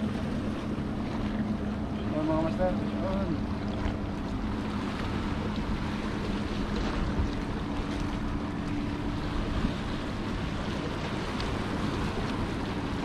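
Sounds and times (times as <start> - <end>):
sea waves against rocks: 0.0 - 13.0
wind buffeting microphone: 0.0 - 13.0.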